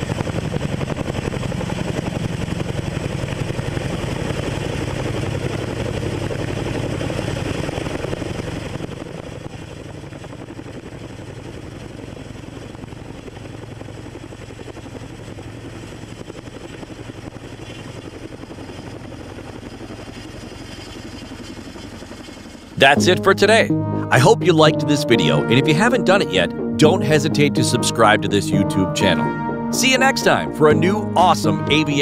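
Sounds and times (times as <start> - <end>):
helicopter rotors beating: 0.0 - 32.0
helicopter turbine engines: 0.0 - 32.0.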